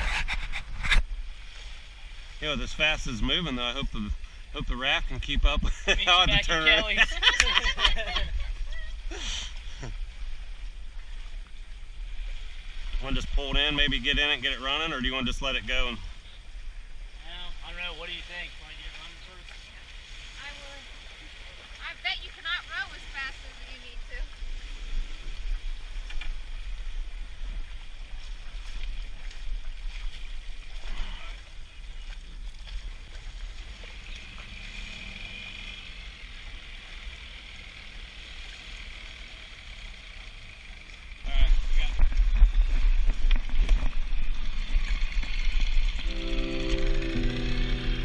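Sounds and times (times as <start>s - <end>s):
rush of water: 0.0s - 48.0s
wind: 0.0s - 48.0s.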